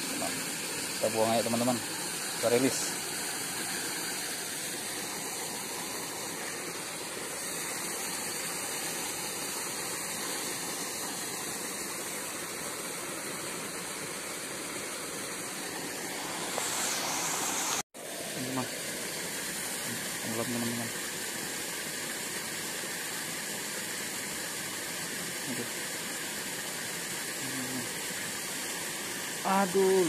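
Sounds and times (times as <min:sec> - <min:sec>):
rushing water hiss: 0:00.0 - 0:30.0.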